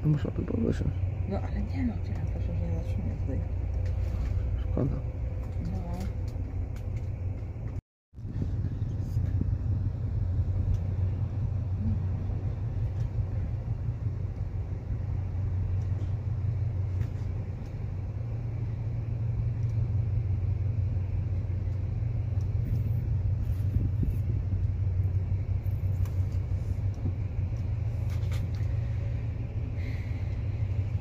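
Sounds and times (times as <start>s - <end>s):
train coach rumbling on rails: 0.0s - 31.0s.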